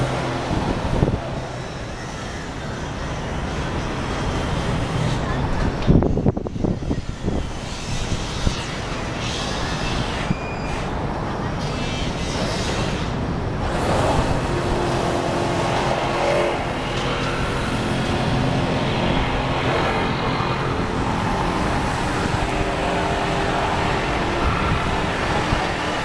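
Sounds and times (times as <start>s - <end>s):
passing cars and buses: 0.0s - 26.0s.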